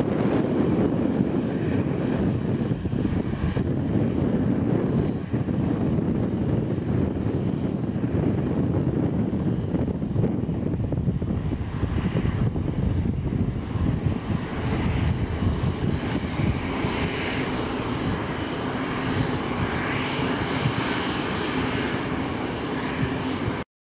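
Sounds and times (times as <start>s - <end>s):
distant aircraft engine rumble: 0.0s - 23.6s.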